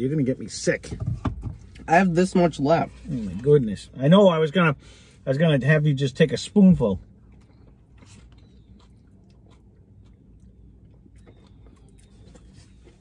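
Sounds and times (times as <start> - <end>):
low hum of car interior: 0.0 - 13.0.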